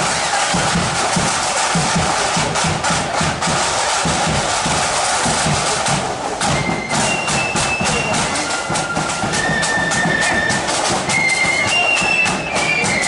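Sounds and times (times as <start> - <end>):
snare drums rattling: 0.0 - 13.0.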